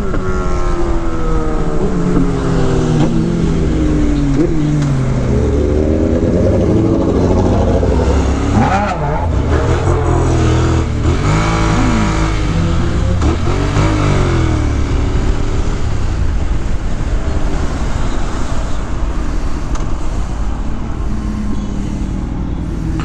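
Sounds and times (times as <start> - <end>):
motorcycle engine revving: 0.0 - 19.6
wind rushing over microphone: 0.0 - 23.0.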